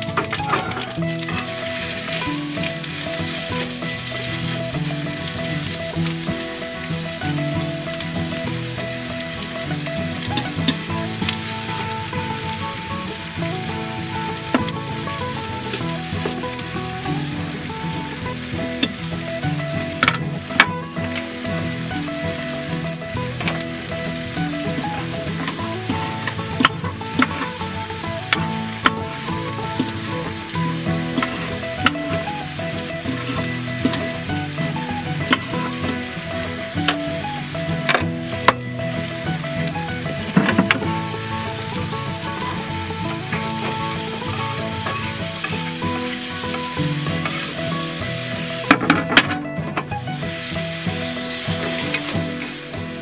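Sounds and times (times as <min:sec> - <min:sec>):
utensil clicking against pan: 0:00.0 - 0:52.6
scallops sizzling in a frying pan: 0:00.0 - 0:53.0.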